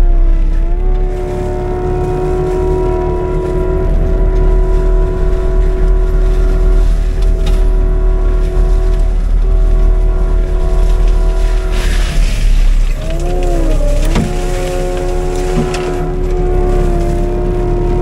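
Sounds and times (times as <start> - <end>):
deep engine rumble: 0.0 - 18.0
mulcher high whine: 0.0 - 18.0.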